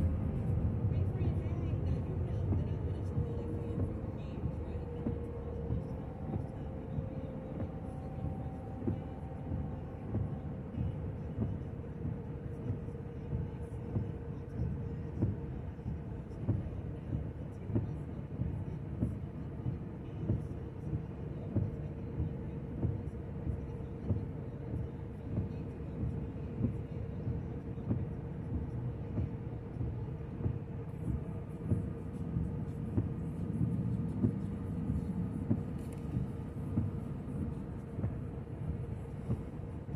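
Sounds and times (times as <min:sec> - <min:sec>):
car road noise rumble: 0:00.0 - 0:39.9
faint steady hum: 0:00.0 - 0:39.9
soft regular thumps: 0:00.0 - 0:39.9.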